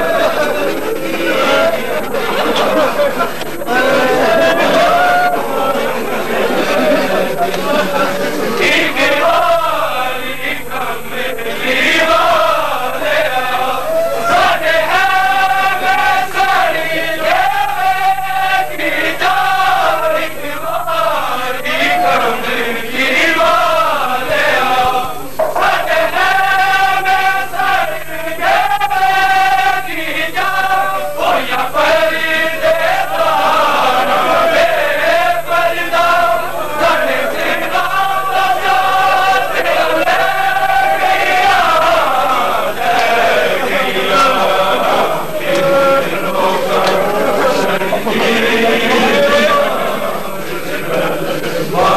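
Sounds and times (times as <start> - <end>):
men chanting in unison: 0.0 - 51.9.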